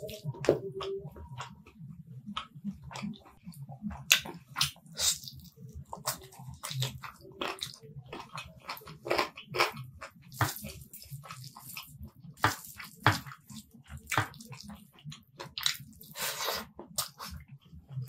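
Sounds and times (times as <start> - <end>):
wet chewing and lip-smacking: 0.0 - 18.0.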